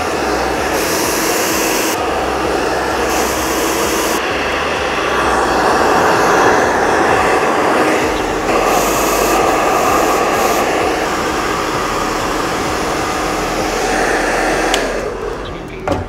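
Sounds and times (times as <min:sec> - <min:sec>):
hair dryer blowing: 0:00.0 - 0:15.6
sharper airflow hiss: 0:00.0 - 0:15.6.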